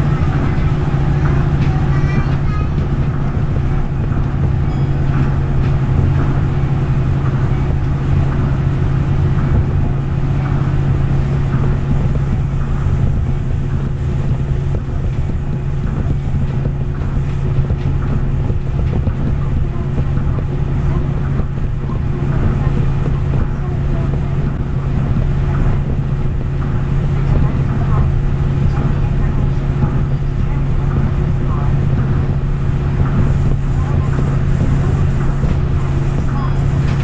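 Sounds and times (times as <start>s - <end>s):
constant low hum: 0.0s - 37.0s
train rumbling in a tunnel: 0.0s - 37.0s.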